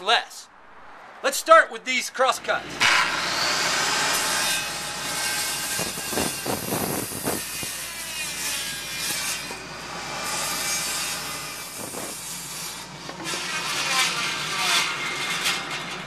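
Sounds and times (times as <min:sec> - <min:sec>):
circular saw cutting wood: 0:02.8 - 0:16.0.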